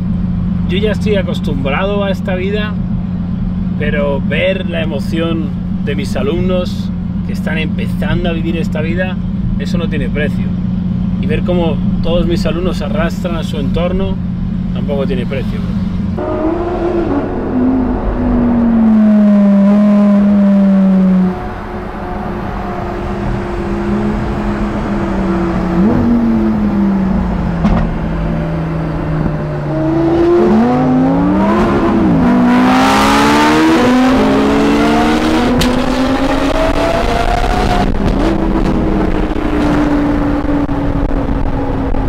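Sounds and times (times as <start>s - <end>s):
sports car engines accelerating: 0.0s - 42.0s.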